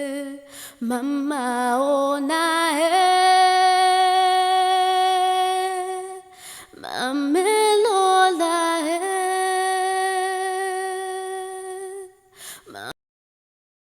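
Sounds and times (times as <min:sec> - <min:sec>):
woman singing without words: 0:00.0 - 0:13.0.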